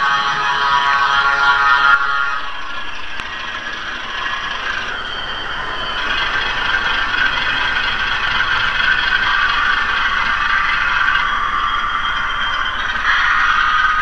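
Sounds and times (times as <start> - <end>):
model train cars rolling on track: 0.0 - 14.0
model train diesel engine sound: 0.0 - 14.0.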